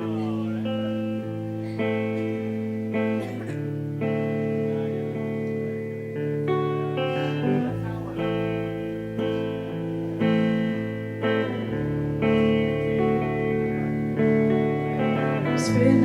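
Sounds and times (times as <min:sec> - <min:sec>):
bass notes: 0:00.0 - 0:16.0
guitar chords ringing: 0:00.0 - 0:16.0.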